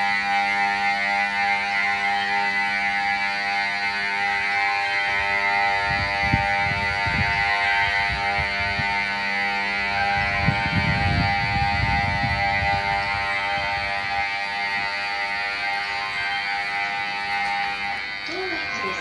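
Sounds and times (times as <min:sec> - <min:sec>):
alarm buzzer: 0:00.0 - 0:19.0.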